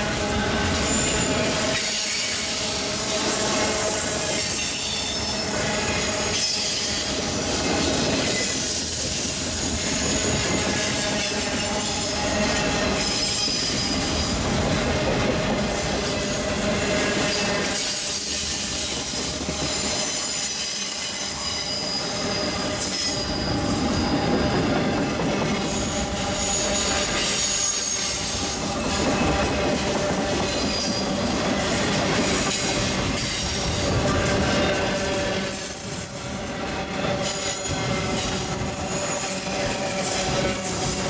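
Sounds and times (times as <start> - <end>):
freight train wheels on rails: 0.0 - 41.0.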